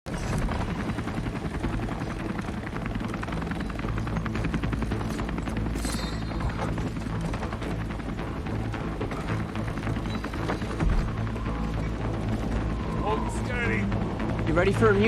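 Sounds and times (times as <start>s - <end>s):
engine drone: 0.1s - 15.0s
helicopter rotors chopping: 0.1s - 15.0s.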